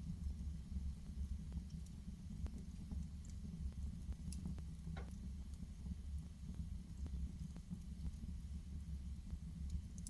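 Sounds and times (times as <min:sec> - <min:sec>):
fire crackling and popping: 0:00.0 - 0:10.0
fire rumbling: 0:00.0 - 0:10.0.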